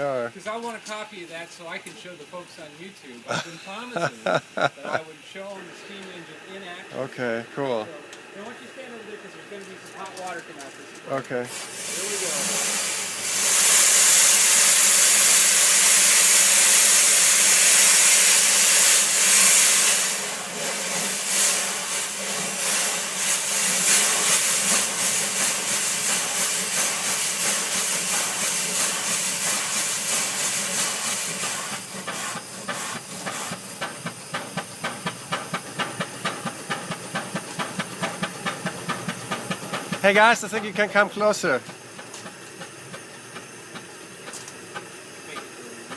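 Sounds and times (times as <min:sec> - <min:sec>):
steam hissing: 0:00.0 - 0:45.9
steam engine exhaust chuffing: 0:02.1 - 0:45.9.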